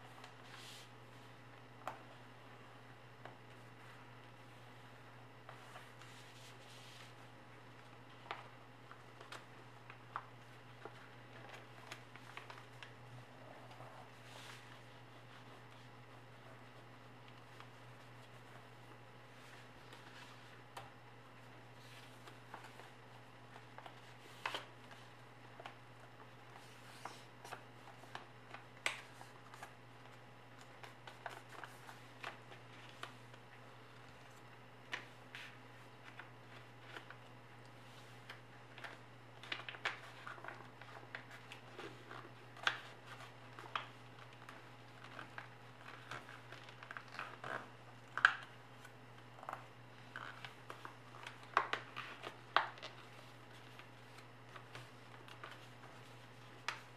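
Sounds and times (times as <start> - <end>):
paper being folded and creased: 3.5 - 22.9, 23.5 - 56.9.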